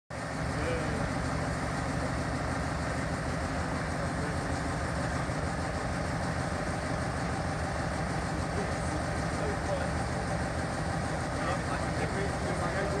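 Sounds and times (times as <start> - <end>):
diesel locomotive engine idling: 0.1 - 13.0.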